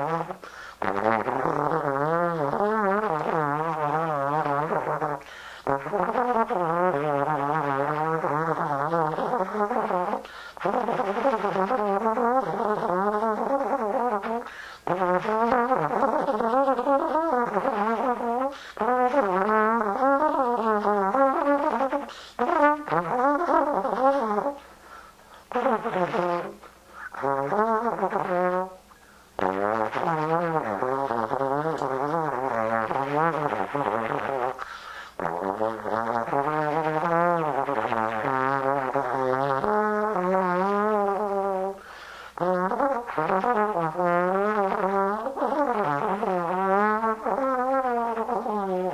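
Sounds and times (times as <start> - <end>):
trombone with wide vibrato: 0.0 - 48.9.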